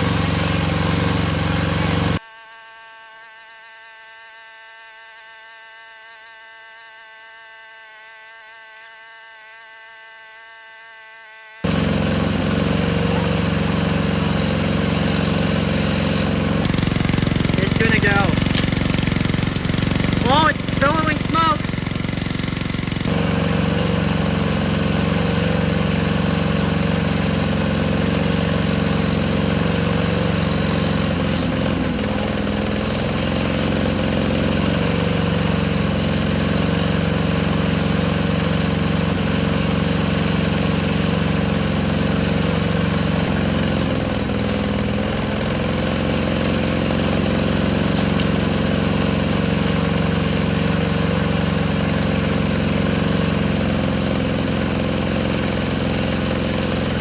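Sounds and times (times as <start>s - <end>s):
lawnmower engine running: 0.0s - 2.2s, 11.6s - 57.0s.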